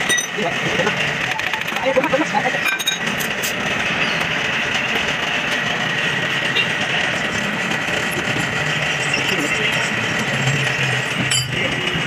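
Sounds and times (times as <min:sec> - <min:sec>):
engine idling: 0:00.4 - 0:12.0.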